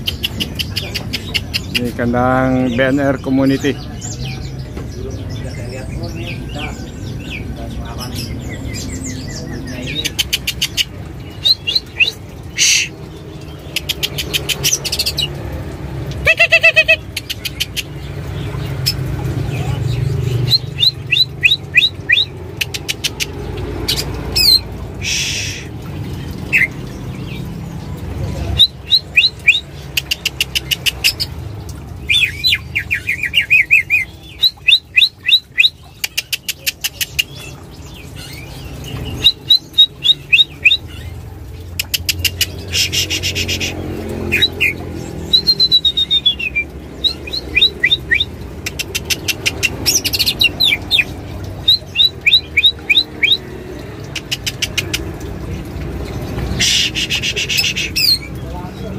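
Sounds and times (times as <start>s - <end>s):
songbirds chirping: 0.0s - 58.9s.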